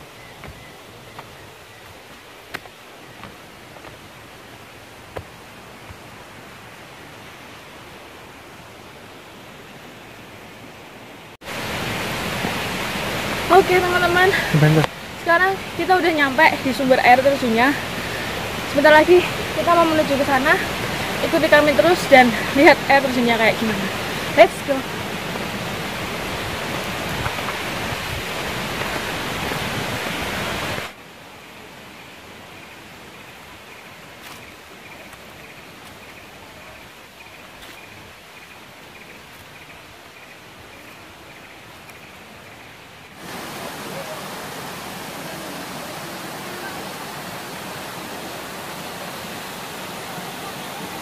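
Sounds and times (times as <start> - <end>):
faint steady hiss: 0.0 - 51.0
waterfall rushing: 0.0 - 51.0.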